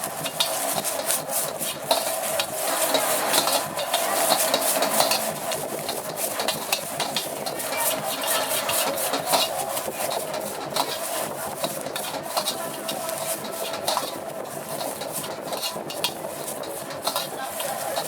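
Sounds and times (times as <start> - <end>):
metal spatula scraping a wok: 0.0 - 18.0.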